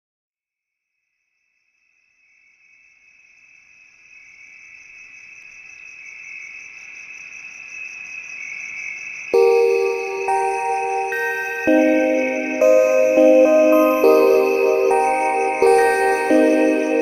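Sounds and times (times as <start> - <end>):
crickets trilling: 1.7 - 17.0.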